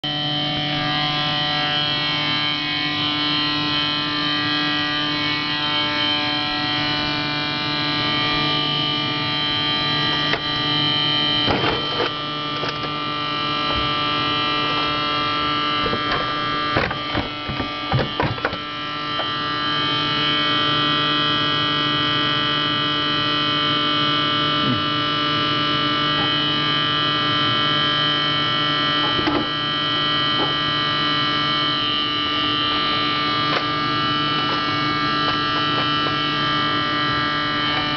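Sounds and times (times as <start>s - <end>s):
refrigerator buzzing hum: 0.0s - 37.9s.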